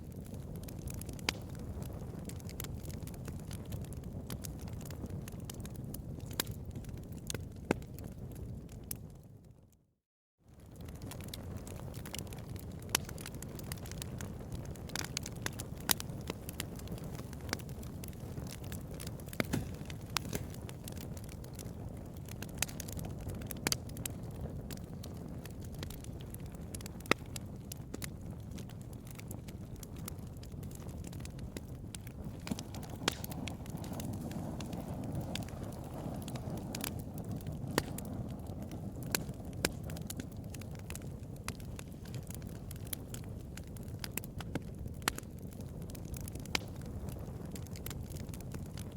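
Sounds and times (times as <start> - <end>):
bonfire flames rushing: 0.0 - 9.1, 10.6 - 48.9
wood fire crackling and popping: 0.0 - 9.5, 10.5 - 48.9
low roar of fire: 0.0 - 9.8, 10.5 - 48.9.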